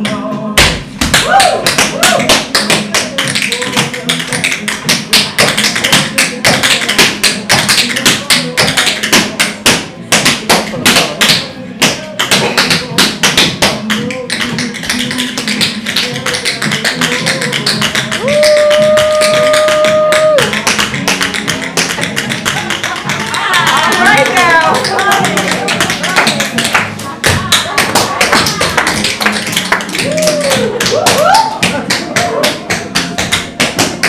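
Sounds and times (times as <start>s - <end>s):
backing music: 0.0s - 34.0s
tap shoes on hard floor: 0.6s - 34.0s.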